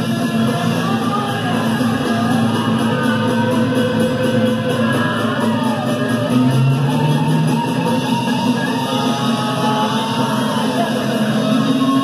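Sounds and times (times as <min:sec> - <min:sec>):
drums: 0:00.0 - 0:12.0.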